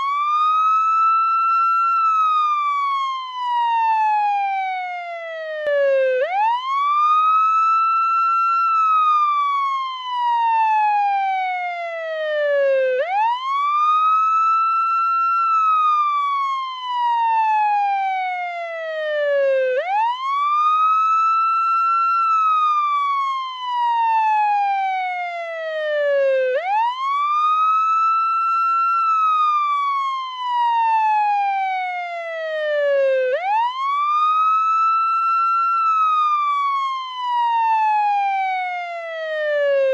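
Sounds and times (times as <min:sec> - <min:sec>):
ambulance wail siren: 0:00.0 - 0:39.9.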